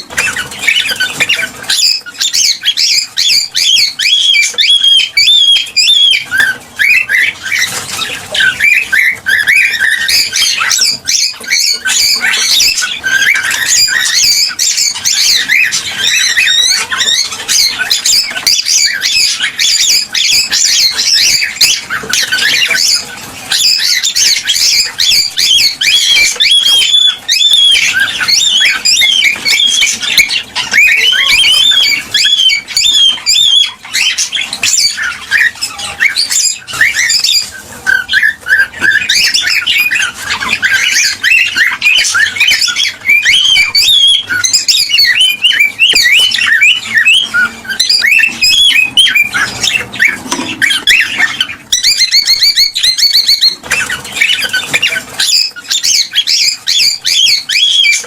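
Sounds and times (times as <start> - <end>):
cockatiels chattering and squawking: 0.0 - 58.0.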